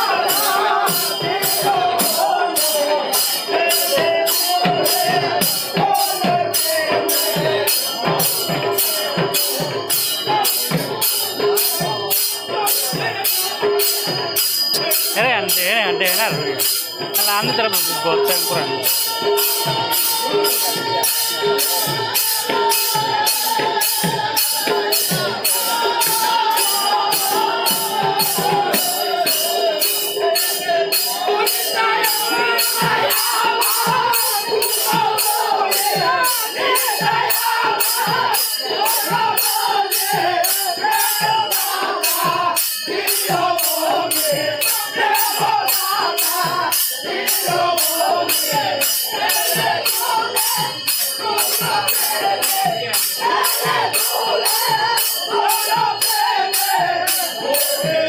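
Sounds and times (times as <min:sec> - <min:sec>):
hand cymbals clashing: 0:00.0 - 0:58.0
hand-played barrel drums: 0:00.0 - 0:58.0
men singing a chant: 0:00.0 - 0:58.0.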